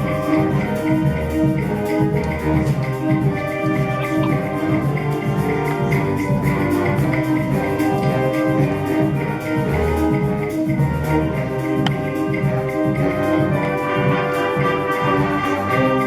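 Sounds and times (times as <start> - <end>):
flute melody: 0.0 - 16.0
samba drums and shaker: 0.0 - 16.0.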